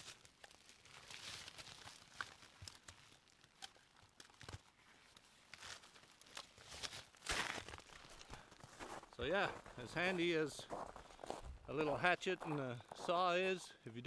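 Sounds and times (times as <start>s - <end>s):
dry twigs rustling and crackling: 0.0s - 13.1s.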